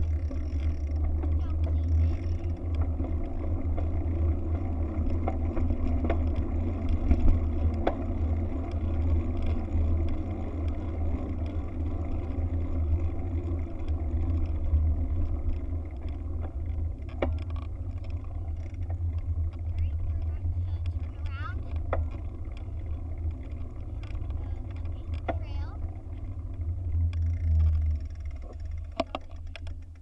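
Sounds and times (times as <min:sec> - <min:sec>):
faint ticks: 0:00.0 - 0:30.0.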